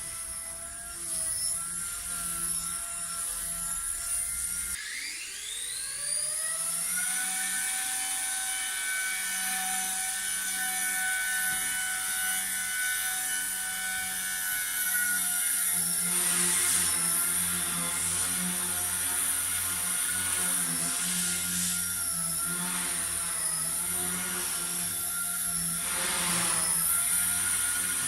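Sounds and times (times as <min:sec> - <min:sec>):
rc helicopter motor whirring: 0:00.0 - 0:28.0.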